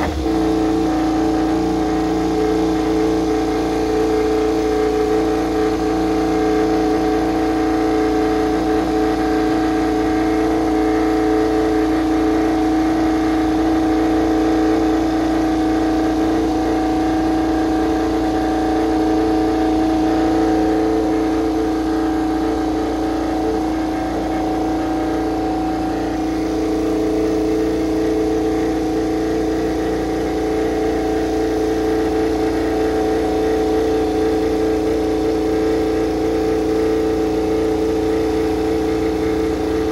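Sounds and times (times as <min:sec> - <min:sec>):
racing motorcycle engine idling: 0:00.0 - 0:39.9.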